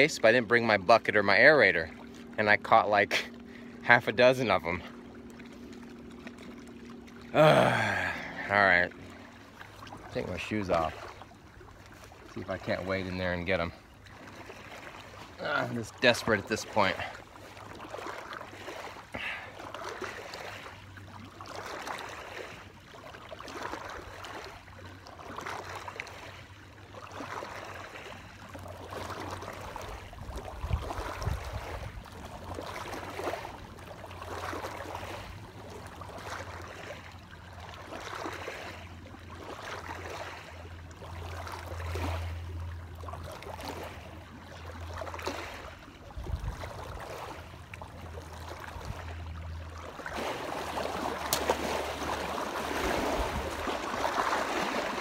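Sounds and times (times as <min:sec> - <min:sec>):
small waves lapping on rocks: 0:00.0 - 0:55.0.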